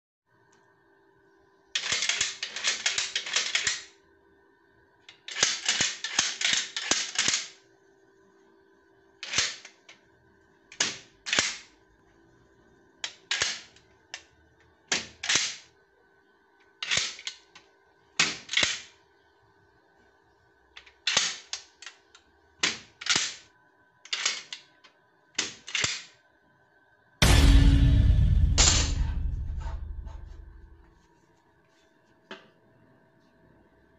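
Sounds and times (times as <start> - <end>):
faint steady hum: 0.3 - 6.8, 7.5 - 33.9.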